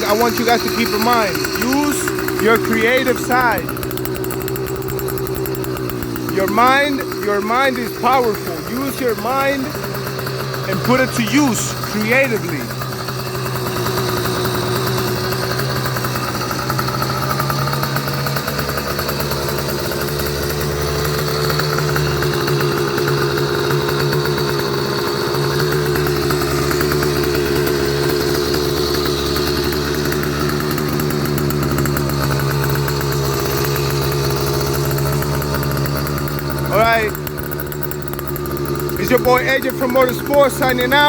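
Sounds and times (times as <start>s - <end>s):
two-stroke engine running: 0.0s - 41.0s.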